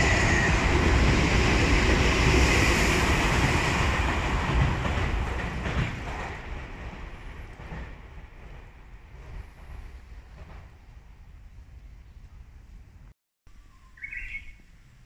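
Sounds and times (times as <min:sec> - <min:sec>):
train passing over steel bridge: 0:00.0 - 0:13.0.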